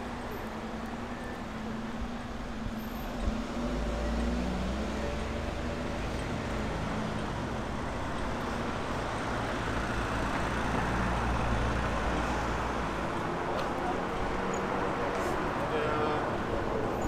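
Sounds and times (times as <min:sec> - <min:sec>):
car engines and tyre noise: 0:00.0 - 0:17.0.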